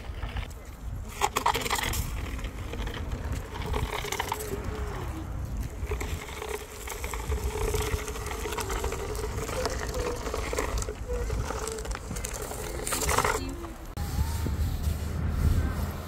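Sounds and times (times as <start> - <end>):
bodyboard scraping over paving: 0.0 - 16.0
wind buffeting microphone: 0.0 - 16.0.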